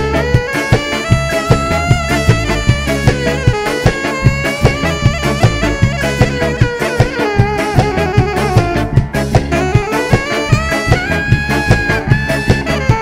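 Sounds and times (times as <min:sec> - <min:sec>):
driving drum beat: 0:00.0 - 0:13.0
horn melody: 0:00.0 - 0:13.0.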